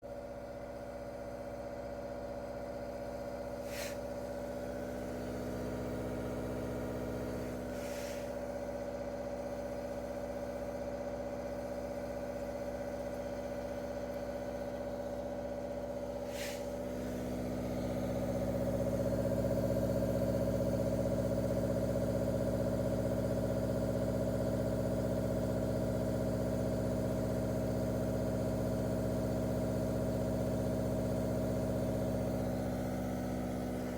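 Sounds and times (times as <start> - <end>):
pump humming: 1.9 - 33.9.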